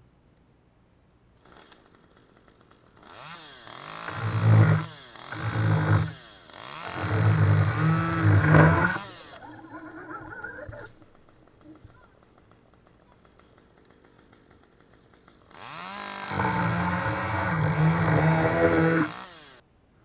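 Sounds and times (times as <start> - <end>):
chainsaw idling and revving: 1.4 - 9.5, 10.9 - 19.6.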